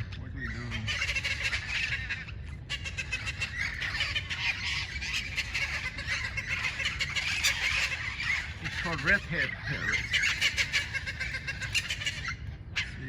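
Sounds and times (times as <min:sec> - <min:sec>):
parrots squawking and chattering: 0:00.0 - 0:13.0.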